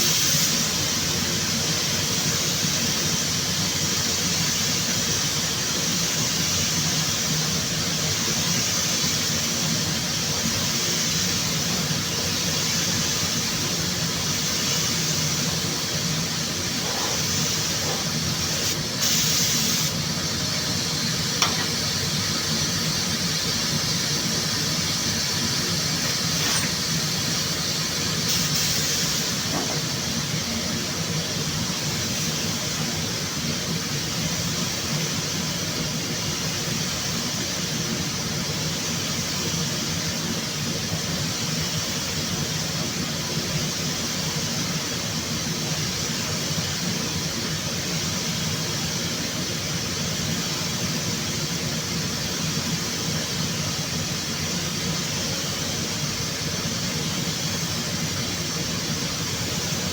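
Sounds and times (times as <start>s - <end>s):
spray booth air hiss: 0.0s - 59.9s.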